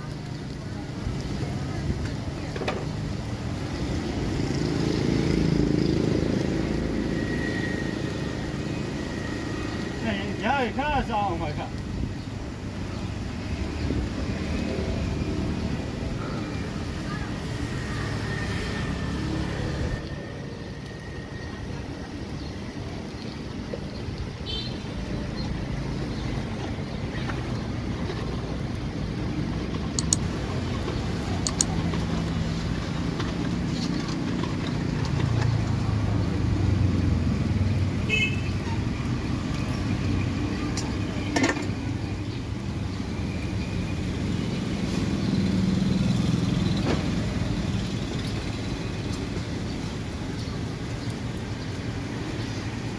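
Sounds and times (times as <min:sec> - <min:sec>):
street traffic rumble: 0:00.0 - 0:52.9.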